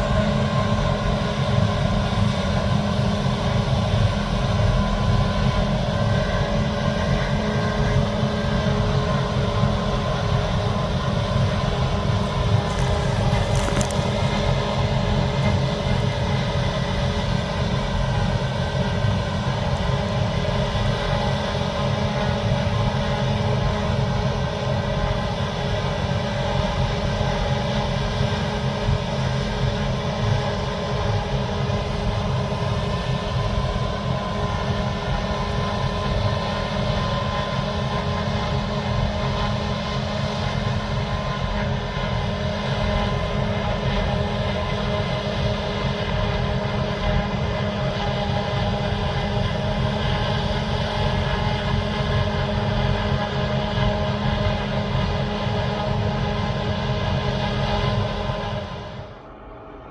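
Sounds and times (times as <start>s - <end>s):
harvest machinery engine drone: 0.0s - 59.9s.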